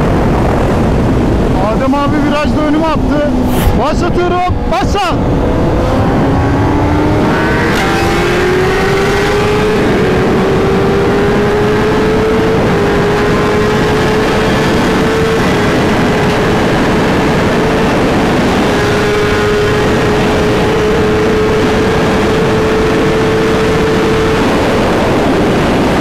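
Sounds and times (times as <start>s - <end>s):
motorcycle engine full throttle: 0.0s - 26.0s
wind noise on helmet: 0.0s - 26.0s.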